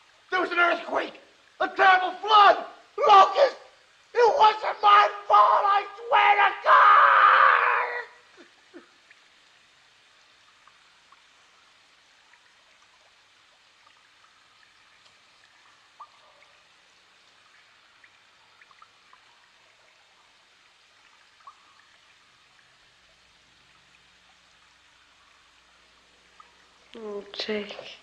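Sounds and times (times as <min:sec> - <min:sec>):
faint background hiss: 0:00.0 - 0:28.0.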